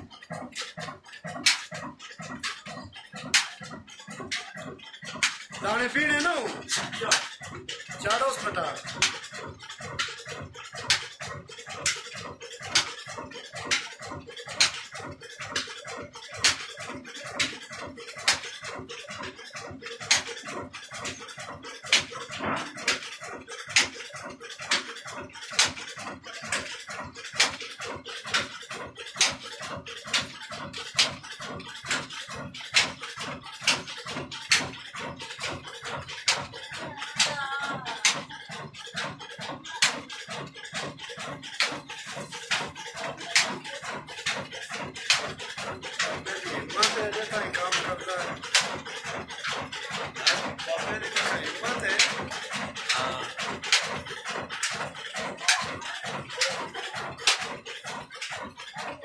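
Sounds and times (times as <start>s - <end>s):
diesel engine running slowly: 0.0s - 59.0s
mechanical clatter: 0.0s - 59.0s.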